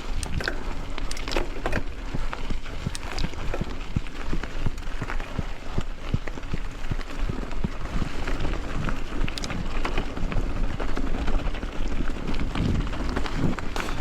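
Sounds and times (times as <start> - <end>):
bicycle knocks and rattles: 0.0 - 14.0
bicycle tyres rumbling on dirt: 0.0 - 14.0
wind on microphone: 0.0 - 14.0.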